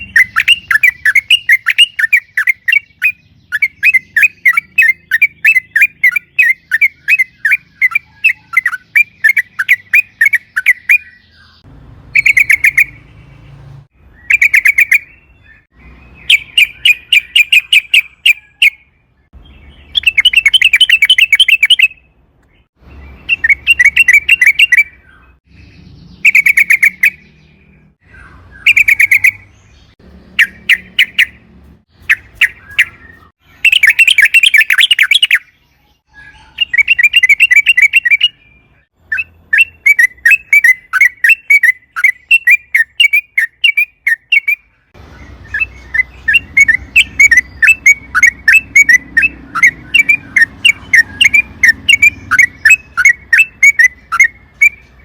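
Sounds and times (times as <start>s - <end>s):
bird singing chattering trills: 0.0s - 55.0s.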